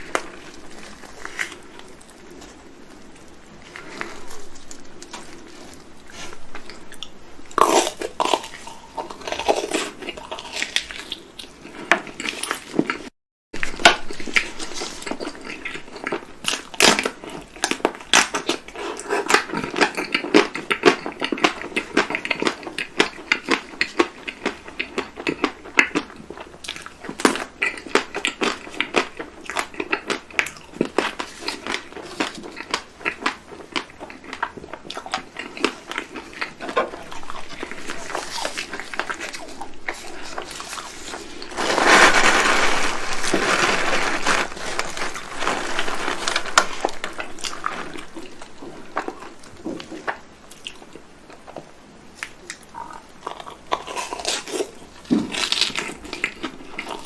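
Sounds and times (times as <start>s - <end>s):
crunchy chewing: 0.0s - 51.6s, 52.2s - 57.0s.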